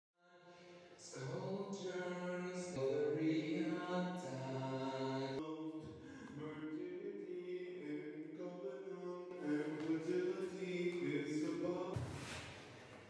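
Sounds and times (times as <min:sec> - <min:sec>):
voices singing in harmony: 0:00.5 - 0:12.4.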